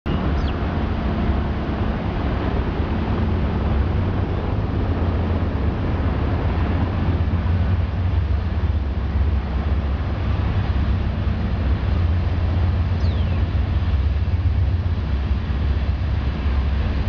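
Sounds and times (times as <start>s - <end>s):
passenger train rumbling: 0.1s - 17.0s
wind on microphone: 0.1s - 17.0s.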